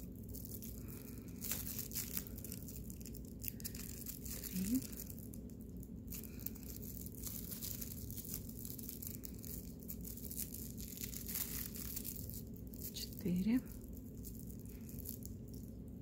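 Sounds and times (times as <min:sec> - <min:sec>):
plastic yarn crinkling: 0:00.0 - 0:16.0.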